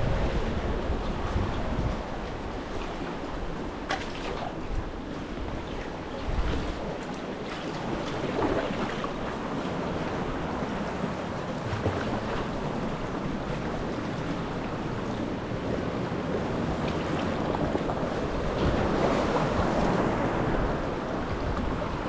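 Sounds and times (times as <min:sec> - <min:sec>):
wind buffeting microphone: 0:00.0 - 0:22.0
sea water splashing: 0:00.3 - 0:22.0.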